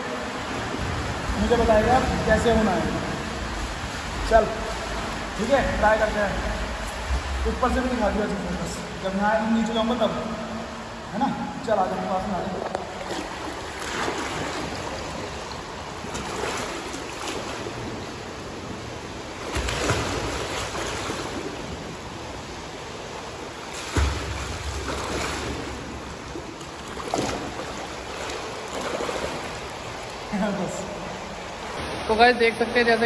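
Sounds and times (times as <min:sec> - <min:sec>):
pool water splashing: 0:00.0 - 0:33.0.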